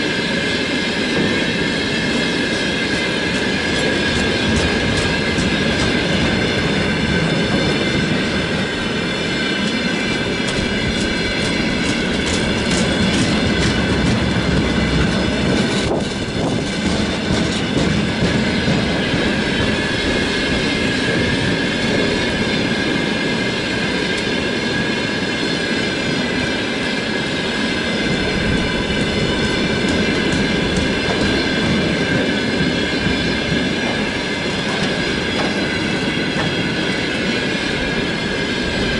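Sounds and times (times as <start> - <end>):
freight train rumble: 0.0 - 38.9
wheels clicking over rail joints: 0.5 - 38.9.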